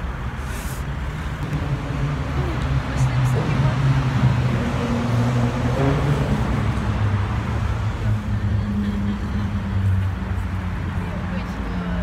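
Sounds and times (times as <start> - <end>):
road traffic drone: 0.0 - 12.0.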